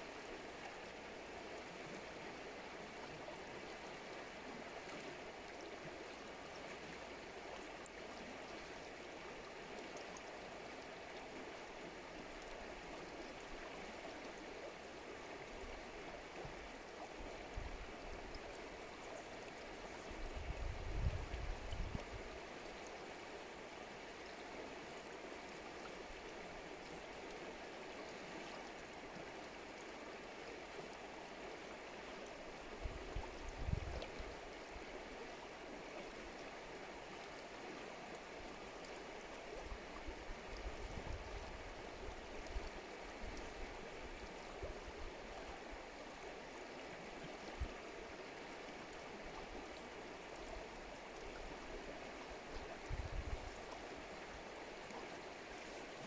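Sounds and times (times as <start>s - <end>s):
river flowing over stones: 0.0s - 56.0s.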